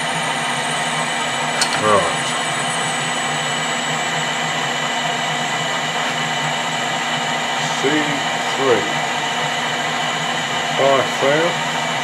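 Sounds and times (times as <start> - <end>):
metal lathe motor whirring: 0.0 - 12.0.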